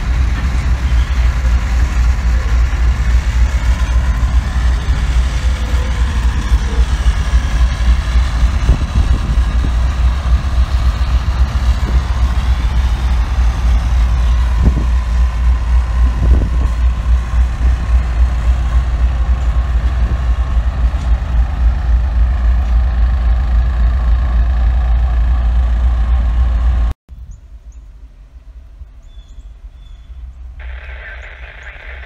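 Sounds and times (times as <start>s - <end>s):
diesel locomotive engine rumble: 0.0s - 32.0s.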